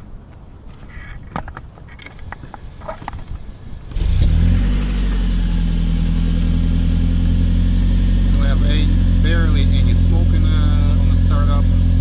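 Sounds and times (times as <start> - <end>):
car engine starting and idling: 2.0 - 12.0.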